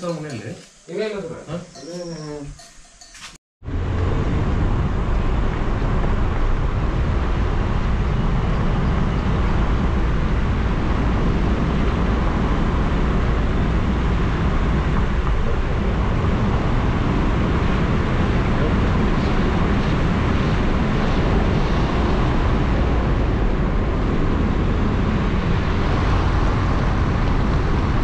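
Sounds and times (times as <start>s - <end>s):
car engine and tyre rumble: 3.6s - 28.0s.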